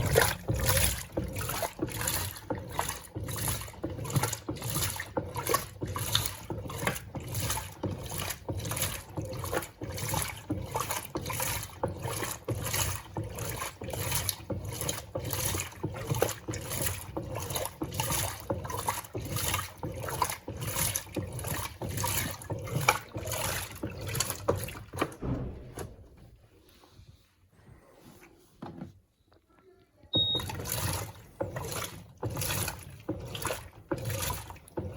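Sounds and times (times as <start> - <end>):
washing machine sloshing: 0.0 - 29.1, 30.1 - 34.9.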